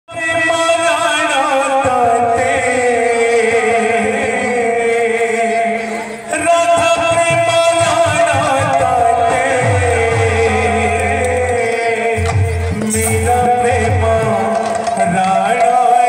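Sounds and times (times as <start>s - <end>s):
devotional music: 0.1s - 16.0s
man chanting through sound system: 0.1s - 16.0s.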